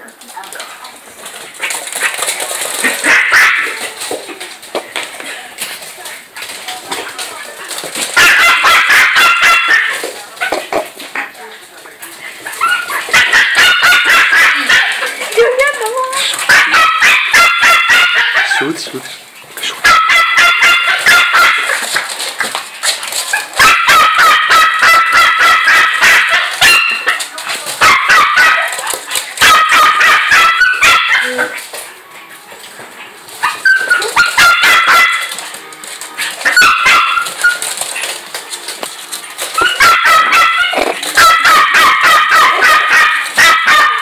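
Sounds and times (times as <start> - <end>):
puppies yapping: 1.3 - 4.6, 7.4 - 11.3, 12.4 - 18.8, 19.4 - 31.8, 33.3 - 44.0.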